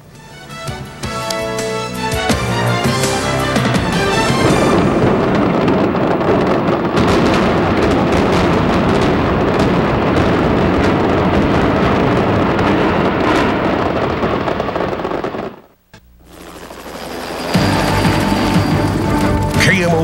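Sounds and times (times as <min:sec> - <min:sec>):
collapsing building rumble: 0:02.4 - 0:20.0
demolition charges cracking: 0:02.5 - 0:20.0.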